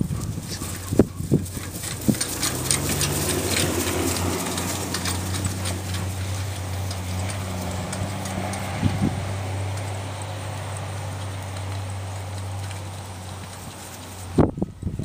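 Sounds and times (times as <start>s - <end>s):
cart and harness rattling: 0.0s - 15.0s
hoofbeats on grass: 0.0s - 15.0s.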